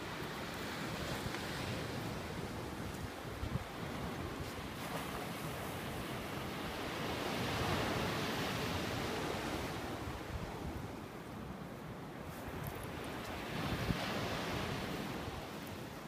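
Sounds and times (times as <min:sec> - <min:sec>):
surf washing on shore: 0:00.0 - 0:16.0
wind rumbling on microphone: 0:00.0 - 0:16.0.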